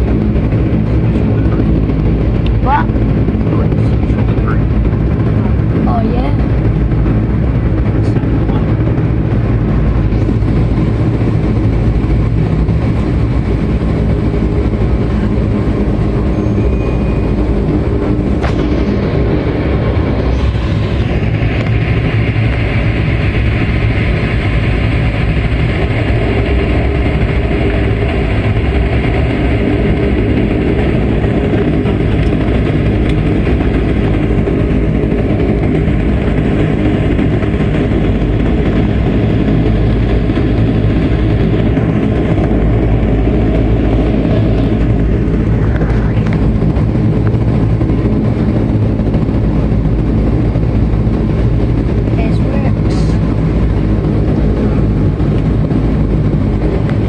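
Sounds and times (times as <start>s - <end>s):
turboprop engines humming: 0.0s - 57.0s.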